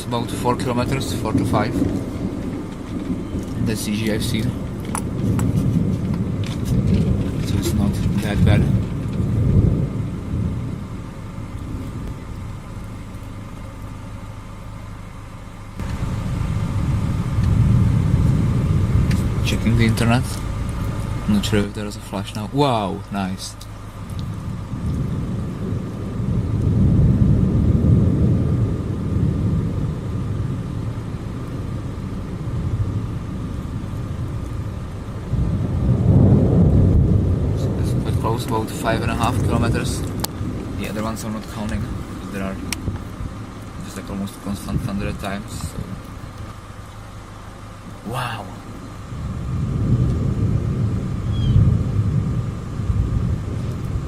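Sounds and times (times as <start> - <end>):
distant thunder rumble: 0.0 - 15.0, 15.6 - 54.0
car engine idling: 0.0 - 54.0
faint steady hum: 0.0 - 54.0.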